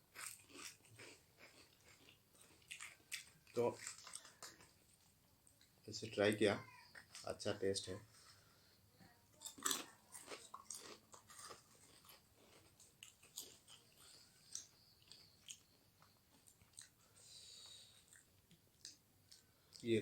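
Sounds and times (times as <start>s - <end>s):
person chewing food: 0.0s - 5.8s, 9.4s - 19.8s.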